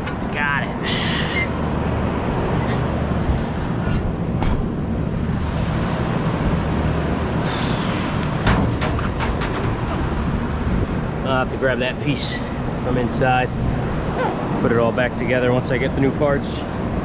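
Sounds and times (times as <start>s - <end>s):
air conditioning machinery humming: 0.0s - 17.0s.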